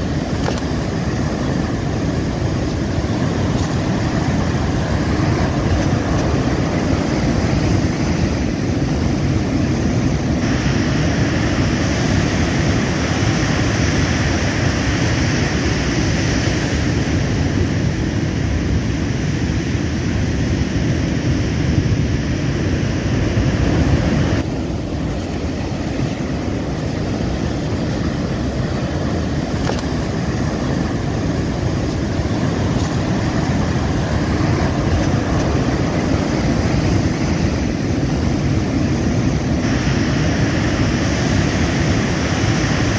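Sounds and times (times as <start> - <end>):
surf breaking on shore: 0.0 - 42.9
wind rumbling on microphone: 0.0 - 42.9.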